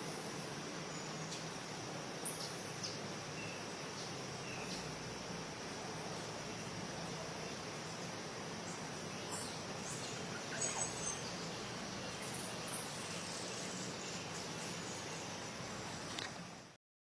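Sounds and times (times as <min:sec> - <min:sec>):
steady outdoor hiss: 0:00.0 - 0:16.8.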